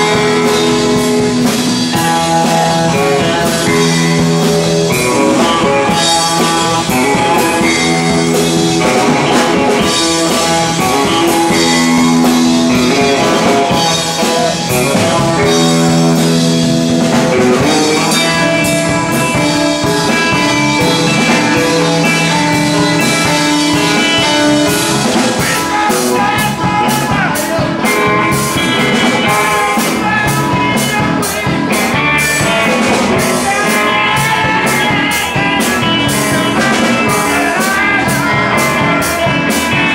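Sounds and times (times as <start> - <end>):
drum kit beat: 0.0 - 39.9
electric guitar: 0.0 - 39.9
man singing: 0.0 - 39.9.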